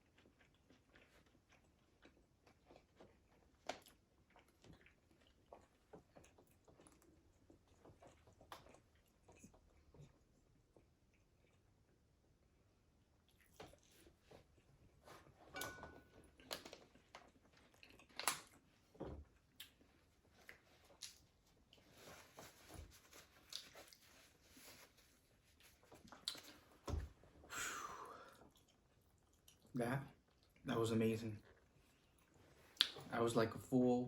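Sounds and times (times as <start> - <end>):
chewing crispy food: 0.0 - 15.4, 16.1 - 26.8, 28.2 - 33.1.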